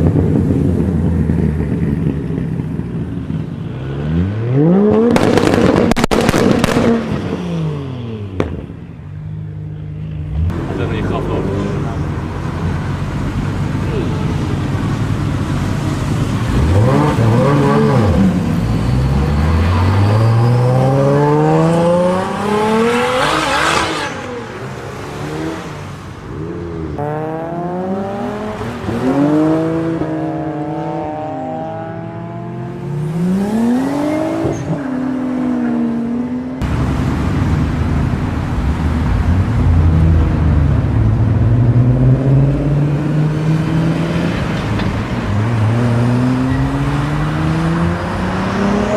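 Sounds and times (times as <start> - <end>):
car engine revving: 0.0 - 8.7, 9.5 - 48.9.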